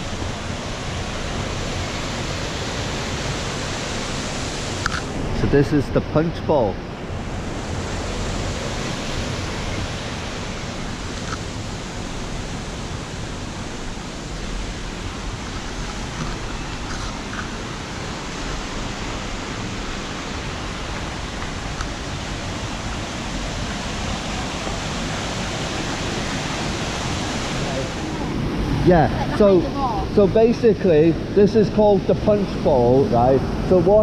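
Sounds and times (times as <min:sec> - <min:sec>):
white water rushing through gorge: 0:00.0 - 0:34.0.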